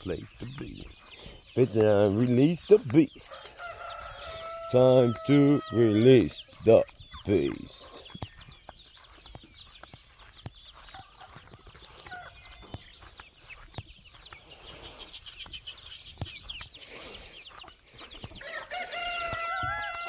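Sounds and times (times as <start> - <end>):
chickens clucking and chirping: 0.0 - 20.0.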